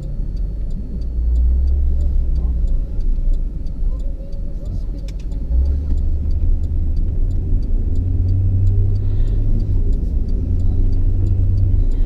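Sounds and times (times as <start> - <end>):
faint light ticking: 0.0 - 12.0
truck engine and road rumble: 0.0 - 12.0.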